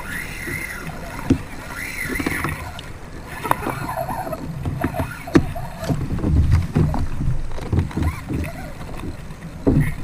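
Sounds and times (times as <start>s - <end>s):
paddle stroking through water: 0.0s - 10.0s
water rushing: 0.0s - 10.0s.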